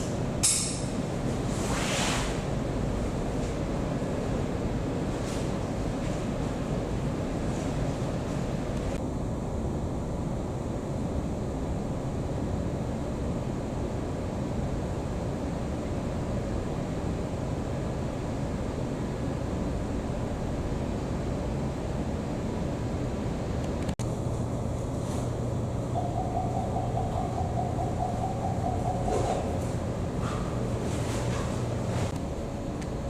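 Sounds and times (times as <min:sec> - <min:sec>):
steady low background noise: 0:00.0 - 0:33.0.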